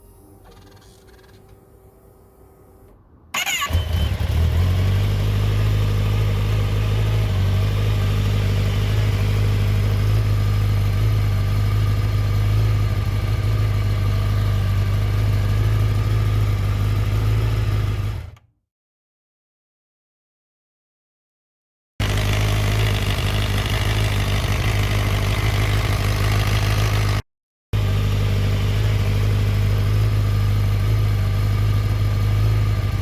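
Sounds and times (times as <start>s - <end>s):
motorcycle engine starting and idling: 0.0s - 18.5s, 22.0s - 27.2s, 27.8s - 33.0s.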